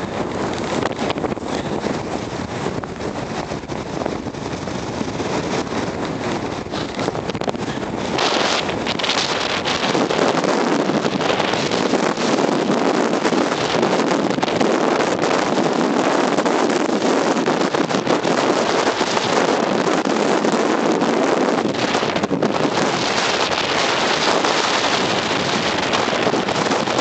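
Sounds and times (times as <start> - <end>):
blizzard wind blowing on microphone: 0.0 - 27.0.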